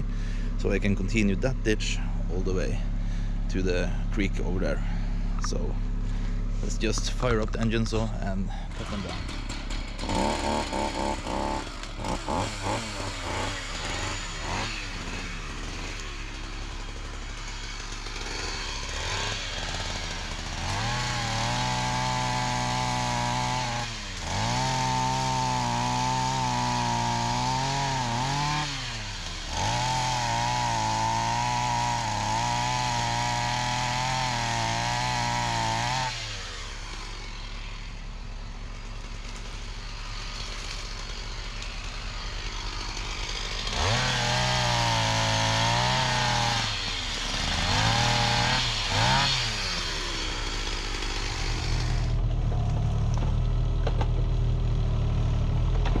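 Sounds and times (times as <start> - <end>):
chainsaw cutting at full throttle: 0.0 - 53.2.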